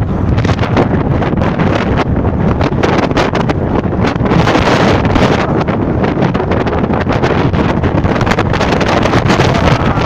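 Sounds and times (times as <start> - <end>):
strong wind on microphone: 0.0 - 10.0.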